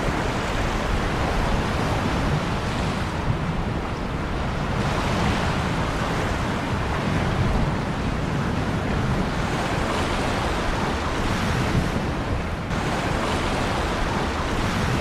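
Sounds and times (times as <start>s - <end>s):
ocean waves on shore: 0.0s - 15.0s.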